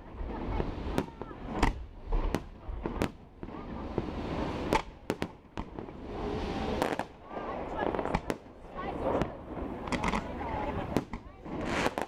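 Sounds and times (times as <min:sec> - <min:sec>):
fireworks bursting in sharp bangs: 0:00.0 - 0:12.0.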